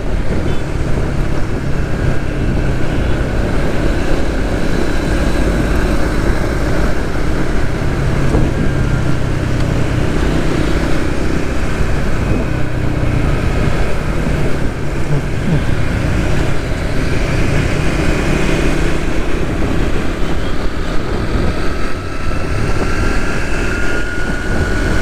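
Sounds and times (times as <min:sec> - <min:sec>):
motorcycle engine running: 0:00.0 - 0:25.0
road and traffic noise: 0:00.0 - 0:25.0.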